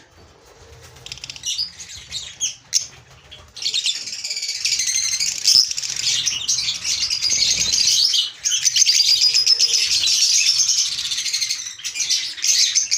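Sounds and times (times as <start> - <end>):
lovebirds chattering: 1.0 - 12.9.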